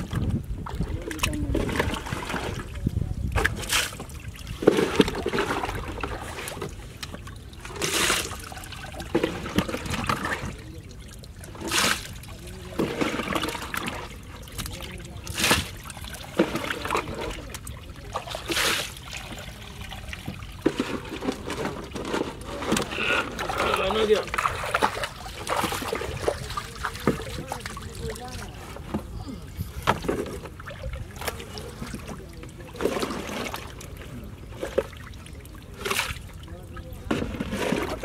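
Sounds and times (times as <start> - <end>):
water trickling: 0.0 - 37.2
water splashing: 0.0 - 38.0.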